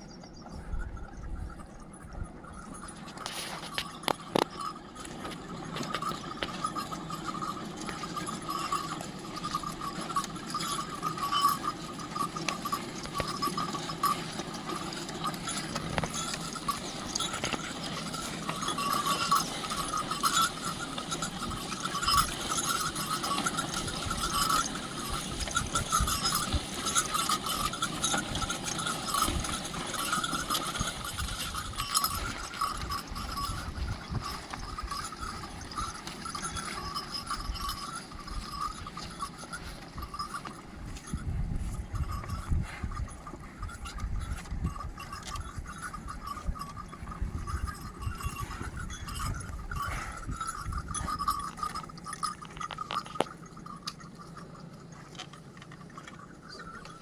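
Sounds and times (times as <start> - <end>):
small bells jingling: 0.0 - 57.0.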